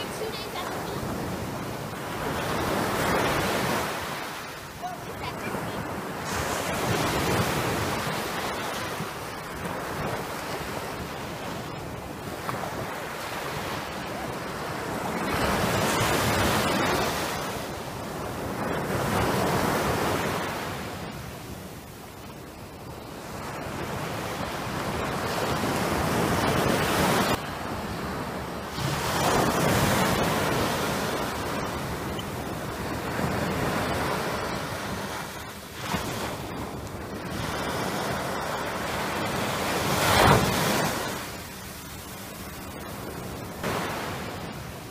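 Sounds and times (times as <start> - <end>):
waves washing up on beach: 0.0 - 44.9.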